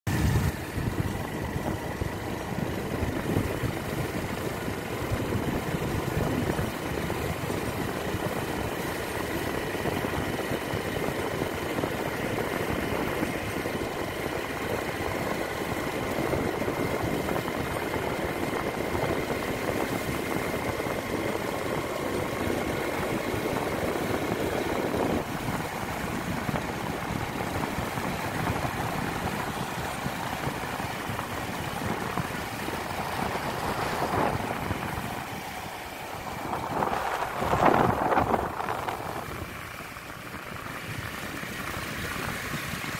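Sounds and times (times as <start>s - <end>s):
motorcycle engine running: 0.1s - 42.9s.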